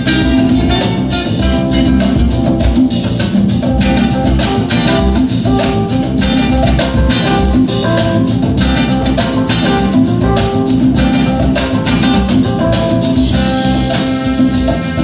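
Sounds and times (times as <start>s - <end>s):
band playing guitar and drums: 0.0s - 15.0s.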